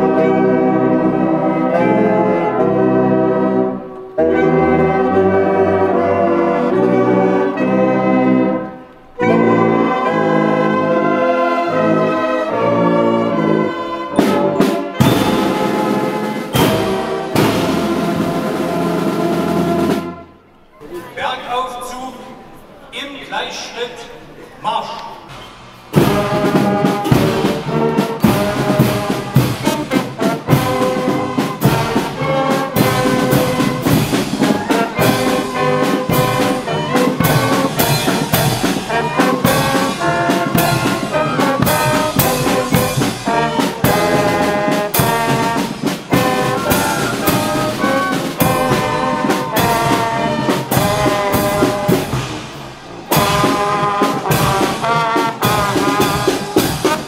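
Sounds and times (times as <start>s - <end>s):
brass band playing a march: 0.0s - 21.9s, 25.3s - 57.0s.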